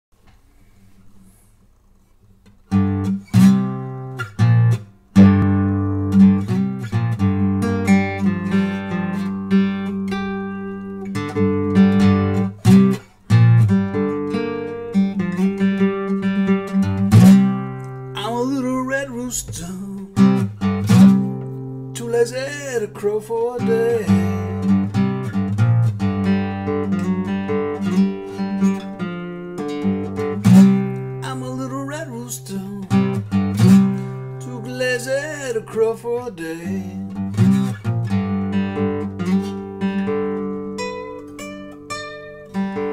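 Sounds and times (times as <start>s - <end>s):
acoustic guitar: 0.2s - 42.9s.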